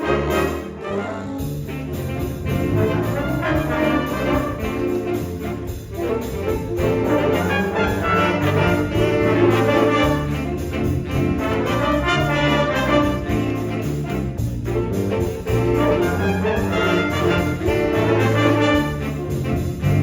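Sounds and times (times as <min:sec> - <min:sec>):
brass section: 0:00.0 - 0:20.0
jazz big band playing: 0:00.0 - 0:20.0
low bass line: 0:00.0 - 0:20.0.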